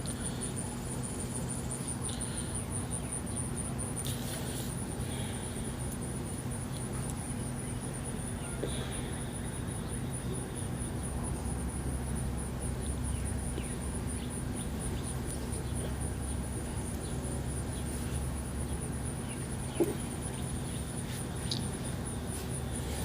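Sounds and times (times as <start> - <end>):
insect chirping: 0.0 - 23.0
steady low hum: 0.0 - 23.0.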